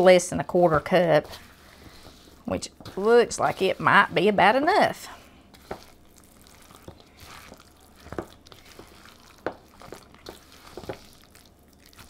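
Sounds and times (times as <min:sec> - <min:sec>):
batter squelching: 0:00.0 - 0:12.0.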